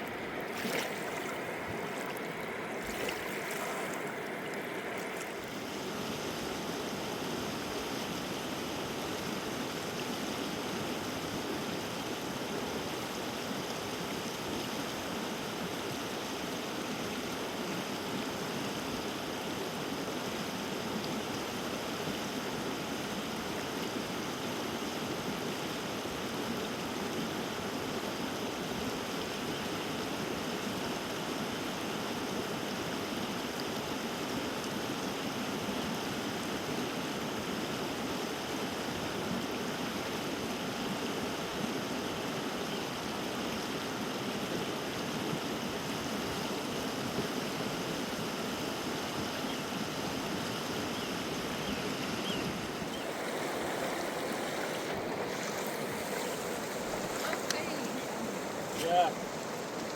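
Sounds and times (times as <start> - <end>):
river water rushing: 0.0 - 26.6, 31.9 - 59.9.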